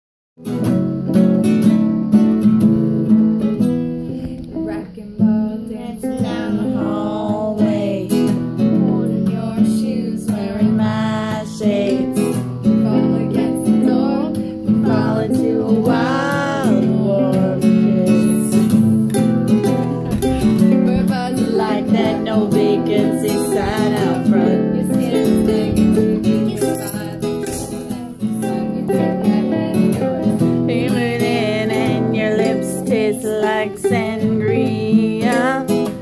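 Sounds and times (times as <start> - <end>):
ukulele strumming chords: 0.4 - 36.0
person singing: 3.6 - 36.0.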